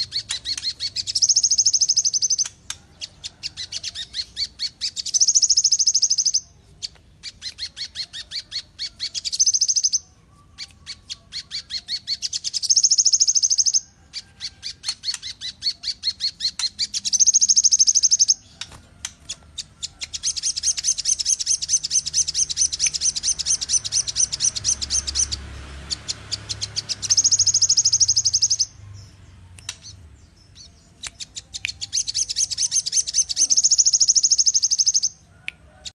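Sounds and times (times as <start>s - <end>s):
songbird chattering and trilling: 0.0s - 35.3s.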